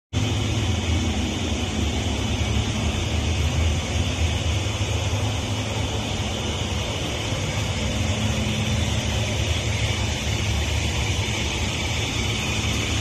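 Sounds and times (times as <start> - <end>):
machinery drone with hiss: 0.2 - 13.0.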